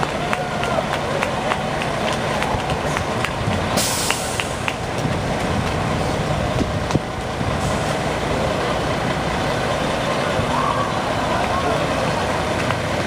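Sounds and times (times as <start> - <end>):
diesel bus engines idling: 0.0 - 13.0.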